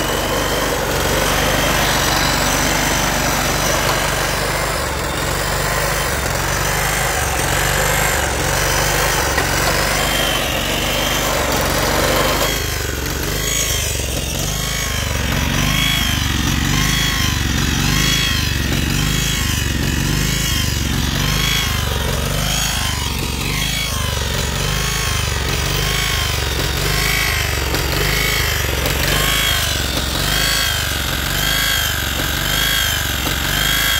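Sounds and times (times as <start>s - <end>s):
petrol engine running: 0.0s - 33.9s.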